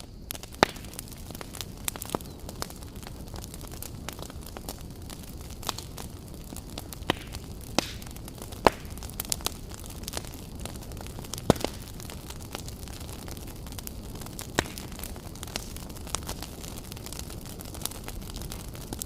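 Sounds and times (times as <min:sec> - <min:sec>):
campfire flames rumbling: 0:00.0 - 0:19.0
fire crackles and pops: 0:00.0 - 0:19.0.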